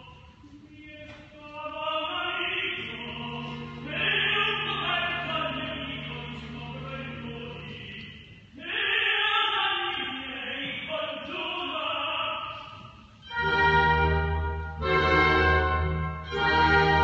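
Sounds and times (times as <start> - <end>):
classical singing voices: 0.0 - 17.0.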